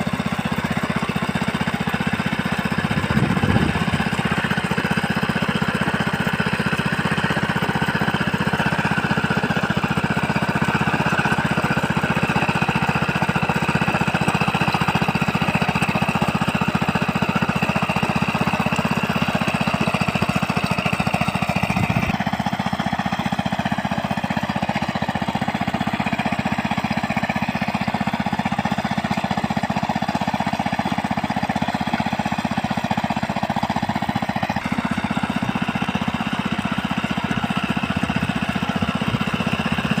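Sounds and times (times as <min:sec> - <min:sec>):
small tiller engine running: 0:00.0 - 0:40.0.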